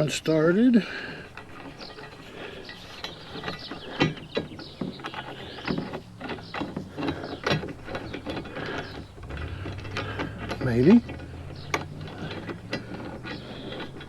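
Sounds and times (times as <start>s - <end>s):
metal bracket and screw clicking: 1.3s - 14.0s.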